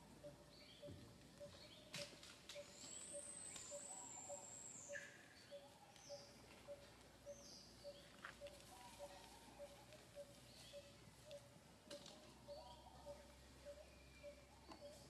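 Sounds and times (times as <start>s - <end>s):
low repeated bird call: 0.0s - 11.5s, 12.2s - 15.0s.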